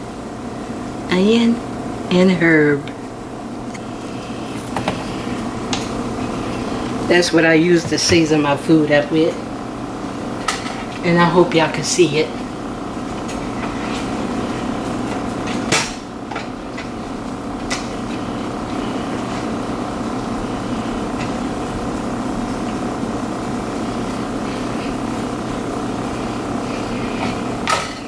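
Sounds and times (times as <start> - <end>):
fan whirring hum: 0.0 - 28.0.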